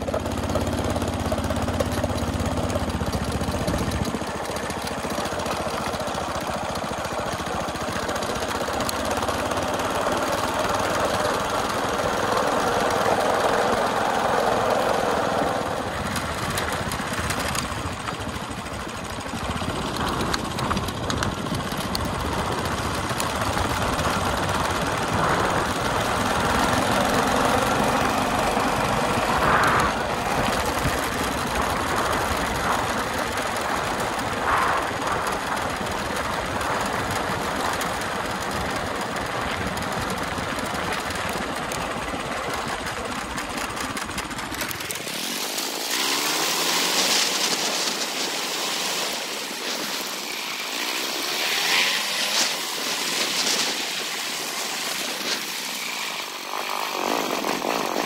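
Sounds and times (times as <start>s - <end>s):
motorized bicycle engine running: 0.0s - 58.0s.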